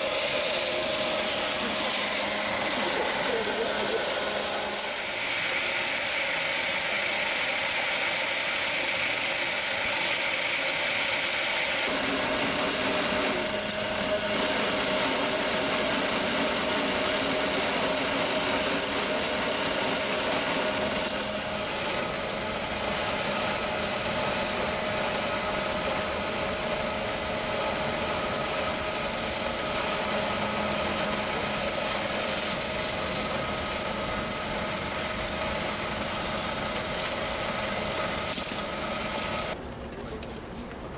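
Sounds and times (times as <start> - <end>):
sawmill machinery drone: 0.0 - 39.6.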